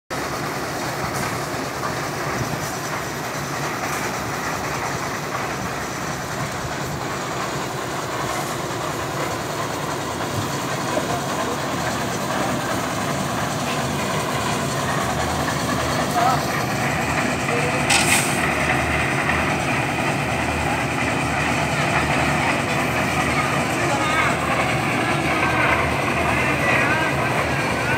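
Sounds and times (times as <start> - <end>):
concrete mixer running: 0.1 - 27.9.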